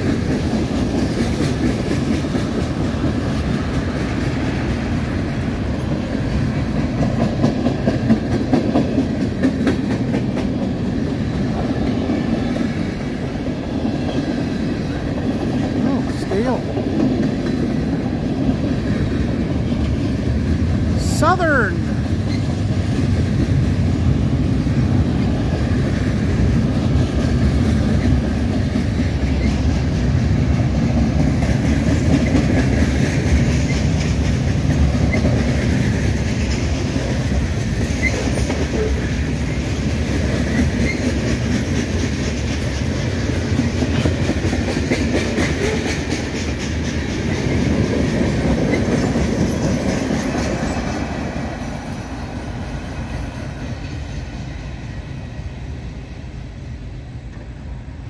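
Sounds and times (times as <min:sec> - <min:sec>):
wheels clicking over rail joints: 0:00.0 - 0:21.0, 0:21.8 - 0:52.1
freight train rumbling past: 0:00.0 - 0:58.0.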